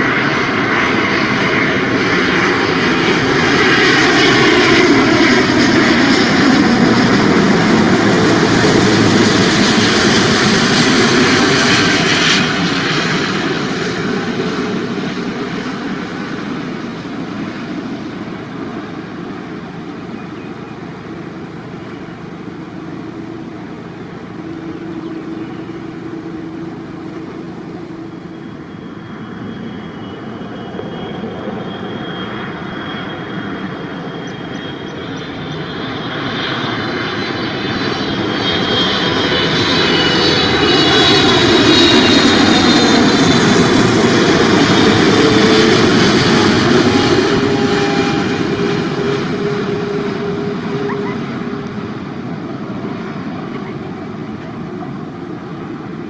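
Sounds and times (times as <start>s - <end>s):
high jet fan whine: 0.0s - 56.0s
jet airliner engine noise: 0.0s - 56.0s.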